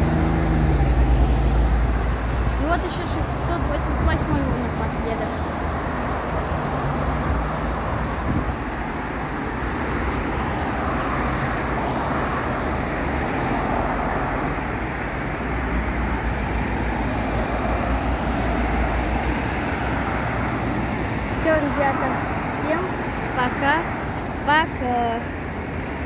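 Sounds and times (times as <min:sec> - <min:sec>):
bus drivetrain drone: 0:00.0 - 0:26.0
tyre and road noise: 0:00.0 - 0:26.0.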